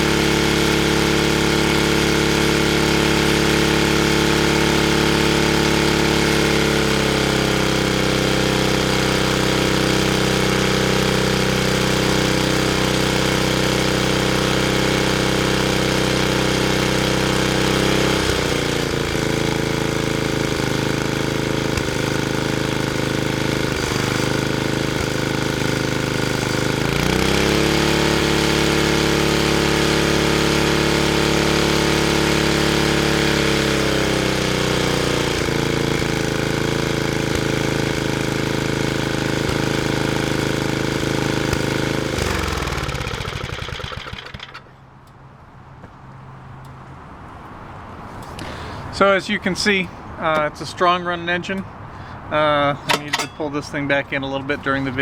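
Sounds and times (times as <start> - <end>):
small engine running: 0.0 - 45.2.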